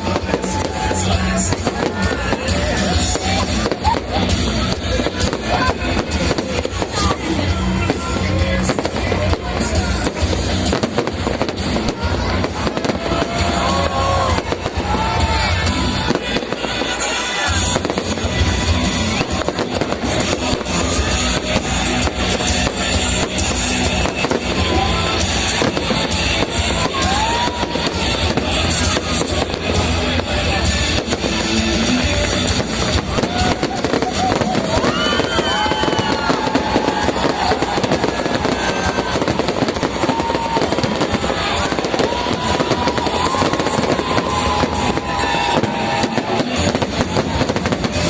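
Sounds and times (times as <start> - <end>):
fireworks bangs and crackling: 0.0 - 48.0
music playing: 0.0 - 48.0.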